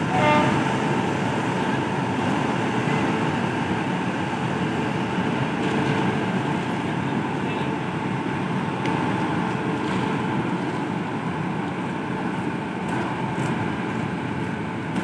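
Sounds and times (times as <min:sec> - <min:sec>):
electric locomotive rumble and hum: 0:00.0 - 0:15.0.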